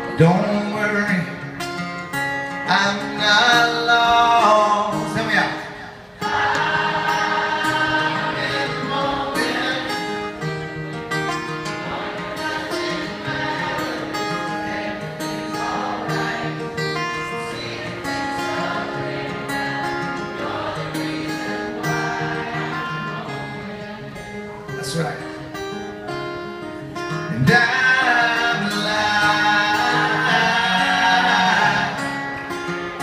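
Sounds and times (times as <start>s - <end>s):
strummed acoustic guitar: 0.0s - 33.0s
crowd singing along: 2.7s - 25.9s, 26.6s - 33.0s.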